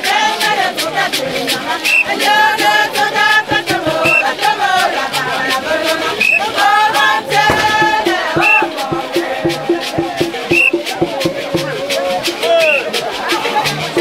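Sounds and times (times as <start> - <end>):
sharp percussion beat: 0.0 - 14.0
voices singing a chant: 0.0 - 14.0.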